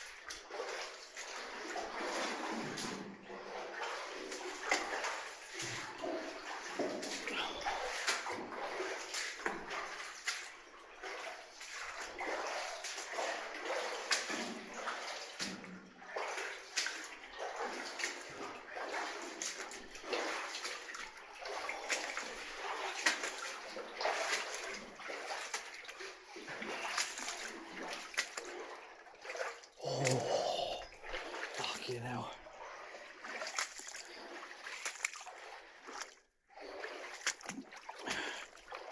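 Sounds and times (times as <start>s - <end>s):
water splashing and sloshing: 0.0s - 38.9s.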